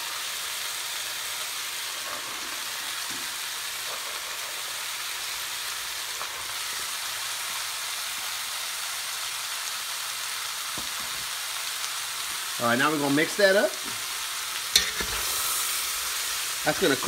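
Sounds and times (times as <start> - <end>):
meat and vegetables sizzling: 0.0 - 17.0.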